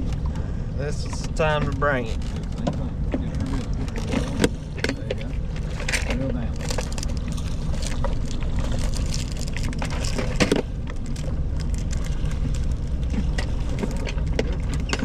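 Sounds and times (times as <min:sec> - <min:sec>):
steady low rumble: 0:00.0 - 0:15.0
fishing gear clicks and knocks: 0:01.0 - 0:15.0.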